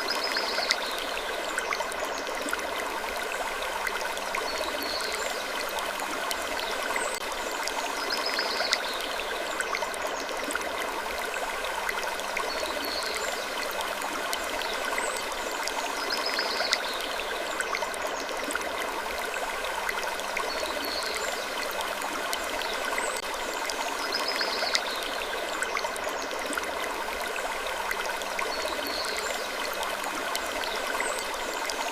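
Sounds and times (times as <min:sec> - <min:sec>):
rushing water-like noise: 0:00.0 - 0:31.9.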